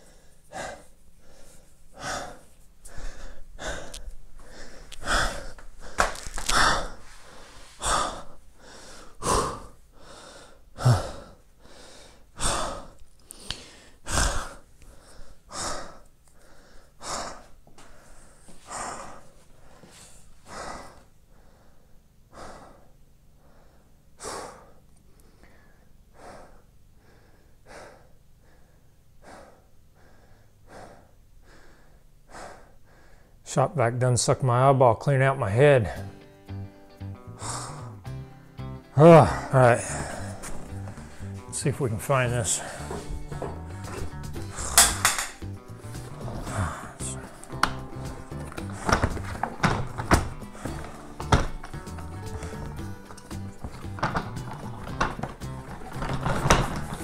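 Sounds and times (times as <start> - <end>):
man breathing hard: 0.0 - 33.4, 37.2 - 41.5, 42.3 - 57.0.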